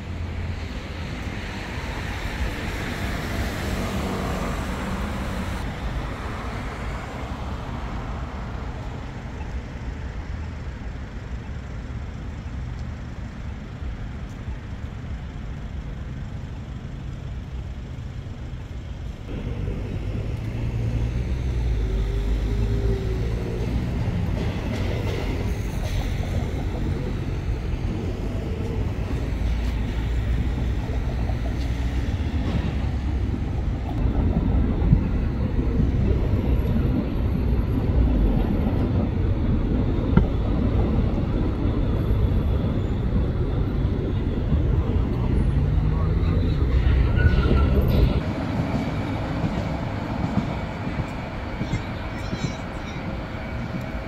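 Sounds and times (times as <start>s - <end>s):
passing traffic: 0.0s - 54.0s.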